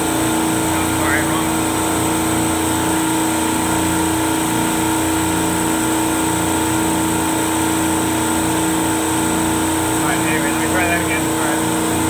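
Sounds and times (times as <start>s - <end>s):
refrigeration compressor humming: 0.0s - 12.0s.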